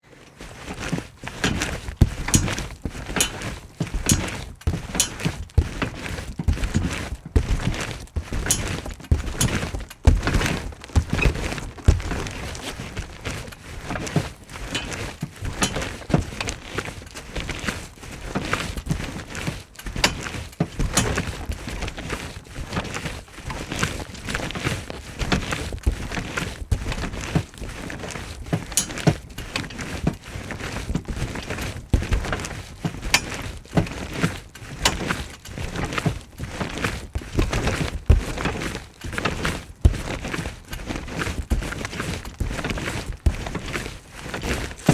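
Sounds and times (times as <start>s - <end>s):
thumps of jumping on a trampoline: 0.5s - 44.9s.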